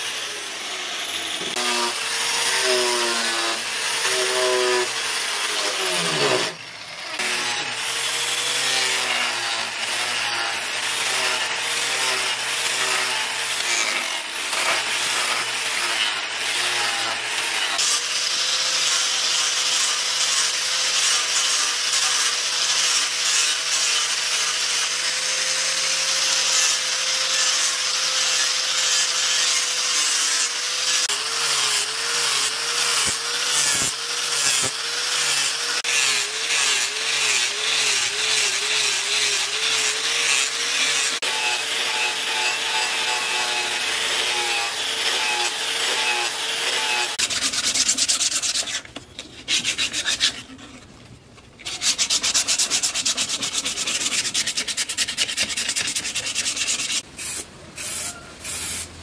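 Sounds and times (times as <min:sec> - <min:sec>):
angle grinder grinding steel: 0:00.0 - 0:50.9, 0:51.6 - 0:58.9
angle grinder sanding wood: 0:00.0 - 0:50.9, 0:51.6 - 0:58.9.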